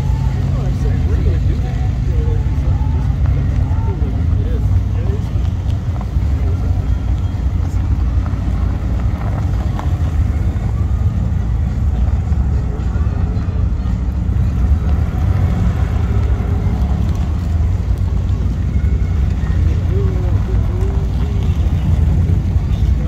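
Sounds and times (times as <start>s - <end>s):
cars driving slowly past: 0.0s - 23.0s.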